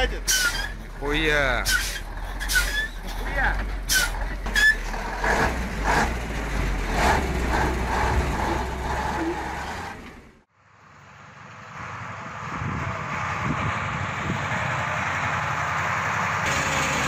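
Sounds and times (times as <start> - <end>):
timber truck engine running: 0.0 - 17.0
truck engine droning: 0.0 - 17.0.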